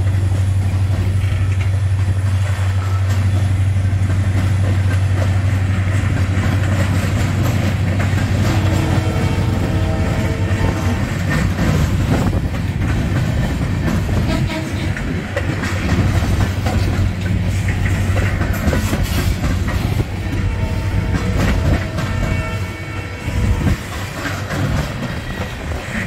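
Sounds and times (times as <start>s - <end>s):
freight train wheels rumbling: 0.0s - 26.0s
wheels clicking over rail joints: 0.0s - 26.0s.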